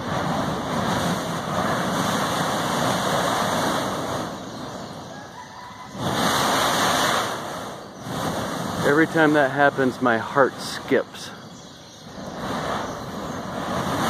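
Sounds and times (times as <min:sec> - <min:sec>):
volcanic gas jetting: 0:00.0 - 0:14.0.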